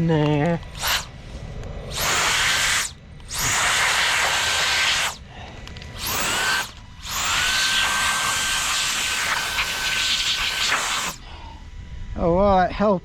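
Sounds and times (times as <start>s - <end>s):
electric air duster blowing: 0.6s - 11.4s.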